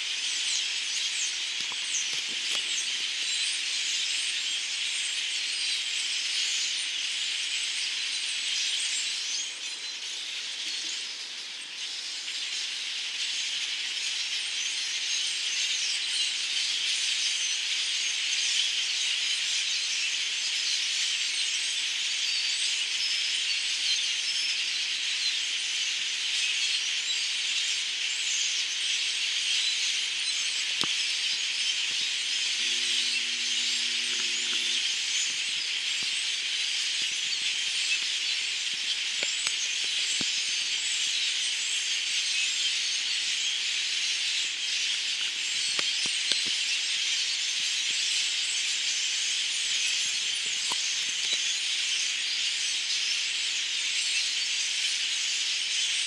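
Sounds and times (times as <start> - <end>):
flock of birds chattering: 0.0 - 56.0.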